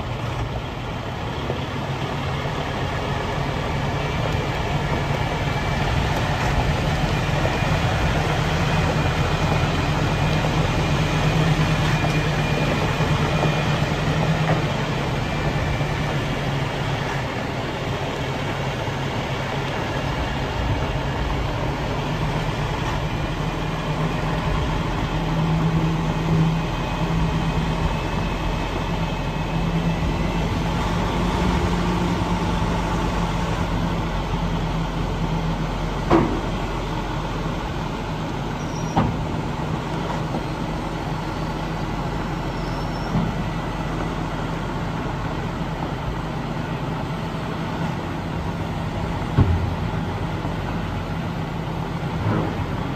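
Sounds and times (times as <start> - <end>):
diesel truck engine running: 0.0 - 52.9.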